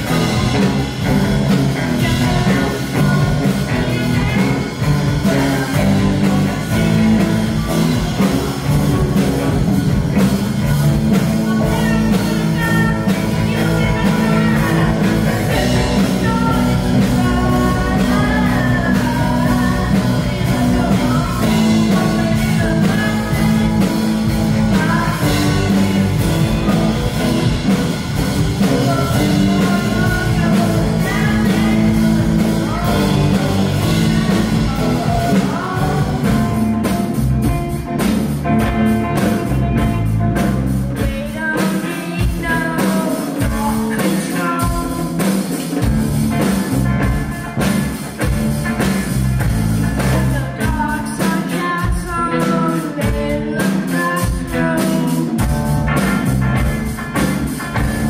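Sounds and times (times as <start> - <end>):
rock band with singer: 0.0 - 58.0.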